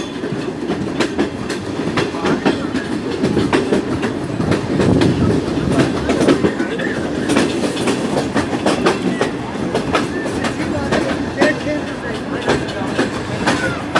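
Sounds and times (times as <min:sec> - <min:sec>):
train rumble: 0:00.0 - 0:13.9
train wheels clicking over rail joints: 0:00.0 - 0:13.9.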